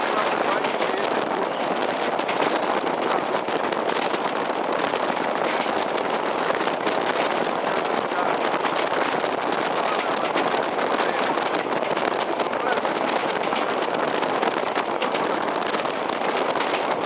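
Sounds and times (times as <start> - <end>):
rapid rattling clatter: 0.0 - 17.0
train running at speed: 0.0 - 17.0.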